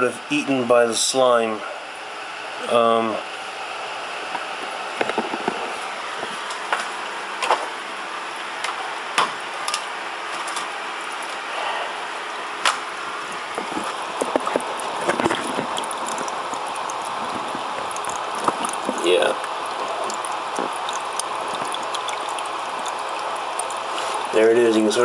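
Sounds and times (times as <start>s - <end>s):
aquarium water bubbling: 1.8s - 25.0s.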